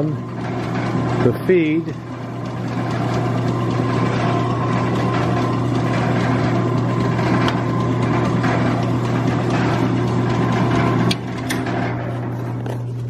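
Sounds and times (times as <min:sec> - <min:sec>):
brake lathe motor hum: 0:00.0 - 0:13.0.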